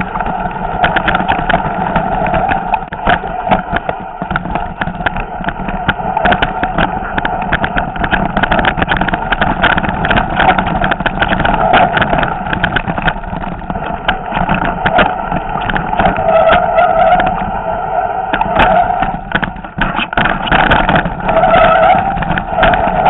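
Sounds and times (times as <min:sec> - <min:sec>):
bike rattling over stones: 0:00.0 - 0:17.5, 0:18.3 - 0:23.0.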